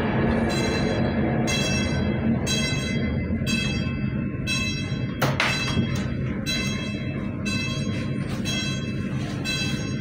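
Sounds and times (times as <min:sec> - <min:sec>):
low rumble of moving train: 0:00.0 - 0:10.0
railway warning bell: 0:00.0 - 0:10.0.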